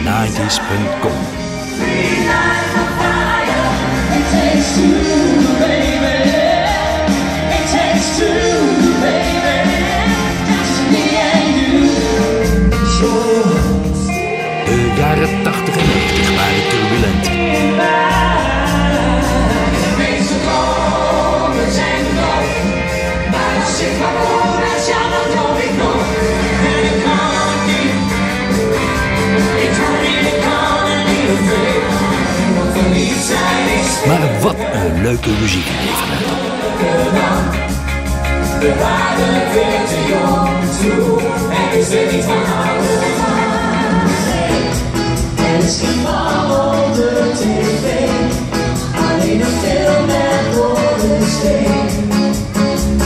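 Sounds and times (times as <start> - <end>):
band playing pop song with vocals: 0.0 - 53.0.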